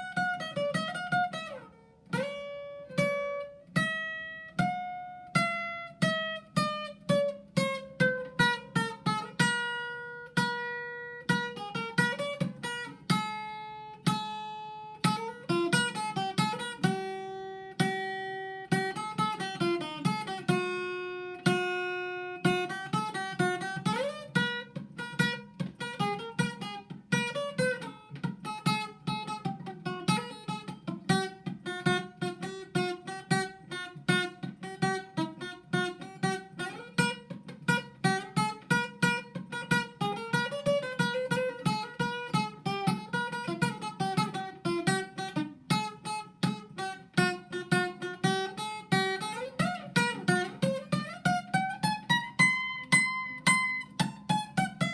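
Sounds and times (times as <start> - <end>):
acoustic guitar plucked notes: 0.0 - 54.9.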